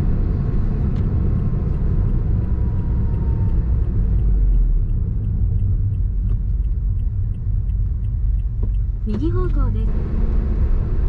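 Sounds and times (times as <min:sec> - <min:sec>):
car engine rumble: 0:00.0 - 0:11.0
road noise: 0:00.0 - 0:11.0
light even ticking: 0:00.8 - 0:09.9.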